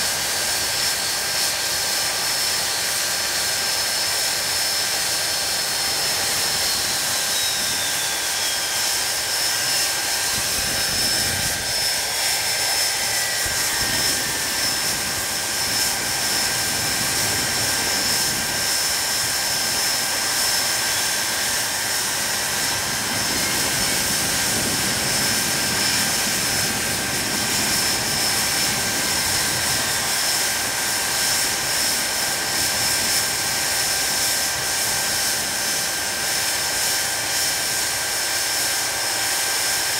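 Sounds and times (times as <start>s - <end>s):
faint whine gliding downward: 0.0s - 39.9s
jet engines running: 0.0s - 39.9s.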